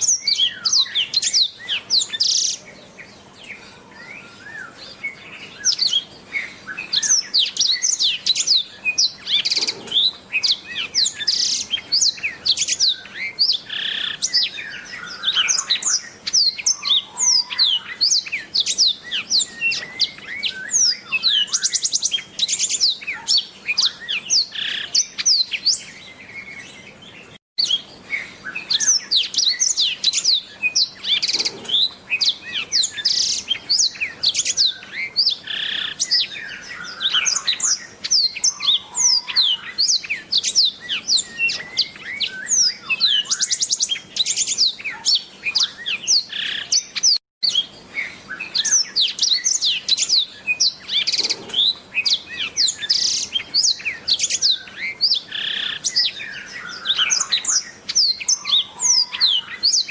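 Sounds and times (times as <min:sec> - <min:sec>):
canary singing warbling song: 0:00.0 - 0:59.9.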